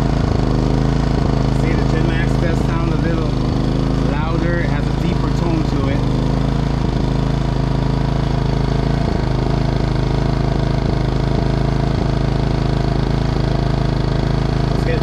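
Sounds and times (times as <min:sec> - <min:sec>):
generator running: 0:00.0 - 0:15.0.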